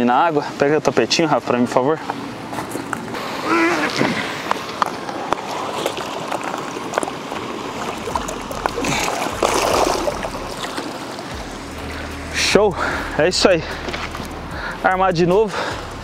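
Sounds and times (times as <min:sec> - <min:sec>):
water splashing and sloshing: 0:01.8 - 0:14.8.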